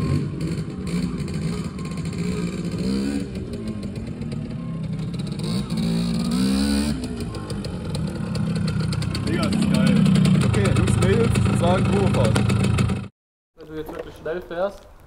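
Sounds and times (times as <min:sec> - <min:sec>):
two-stroke motorbike engine revving: 0:00.0 - 0:13.1.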